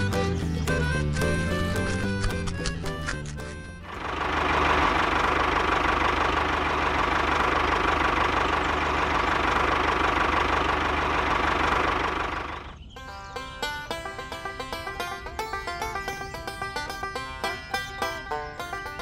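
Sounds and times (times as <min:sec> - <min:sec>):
tractor engine chugging: 0:00.0 - 0:19.0.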